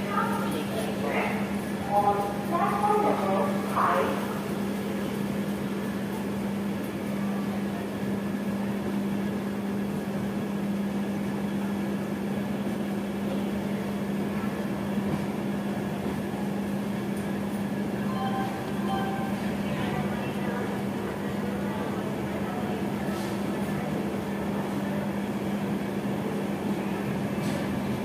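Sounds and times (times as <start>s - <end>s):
passenger train running: 0.0s - 28.0s.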